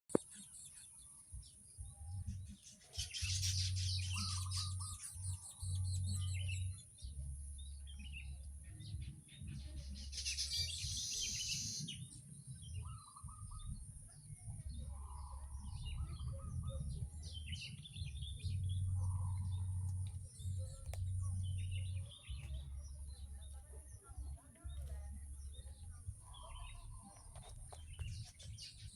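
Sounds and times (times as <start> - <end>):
weaver birds chirping: 0.1 - 28.9.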